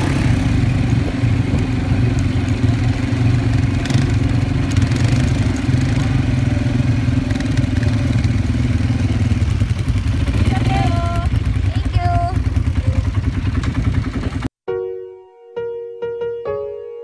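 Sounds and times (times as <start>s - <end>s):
quad bike engines running: 0.0s - 14.5s.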